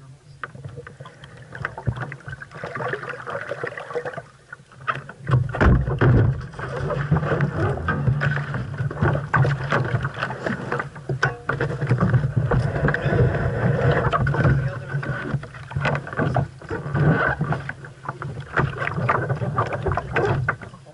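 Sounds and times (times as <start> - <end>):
water rushing along hull: 0.0 - 20.9
boat knocks and clicks: 0.4 - 3.0, 4.7 - 20.9.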